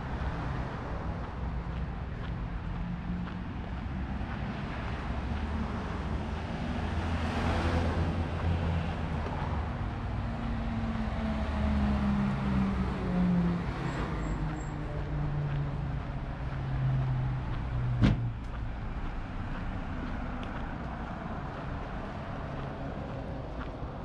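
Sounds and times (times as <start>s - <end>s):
car and van engines running: 0.0s - 24.0s
tyres on the road: 0.0s - 24.0s
vehicle passing: 0.0s - 24.0s.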